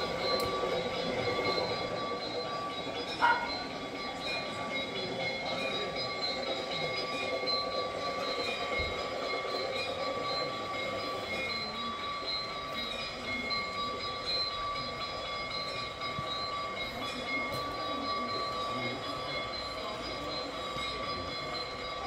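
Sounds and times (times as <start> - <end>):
model train rattling on track: 0.0 - 22.0
steady high-pitched tones: 0.0 - 22.0.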